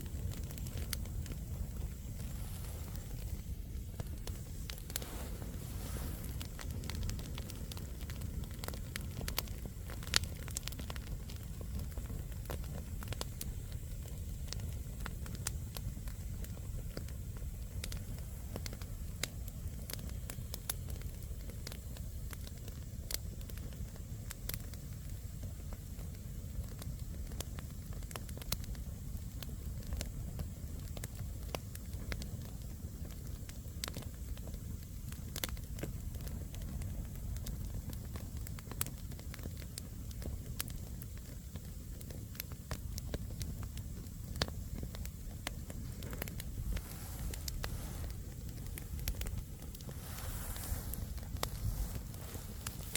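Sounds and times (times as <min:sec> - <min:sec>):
campfire flames rumbling: 0:00.0 - 0:52.9
logs crackling and popping: 0:00.0 - 0:52.9.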